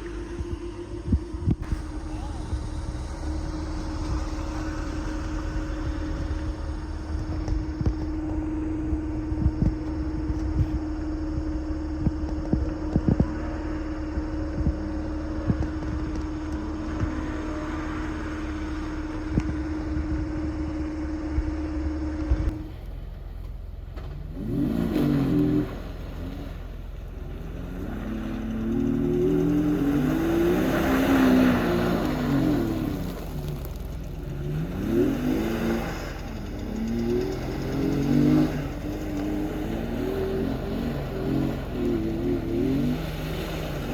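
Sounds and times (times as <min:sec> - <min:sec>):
mechanical hum: 0:00.0 - 0:43.9
vehicle engine revving: 0:00.0 - 0:43.9.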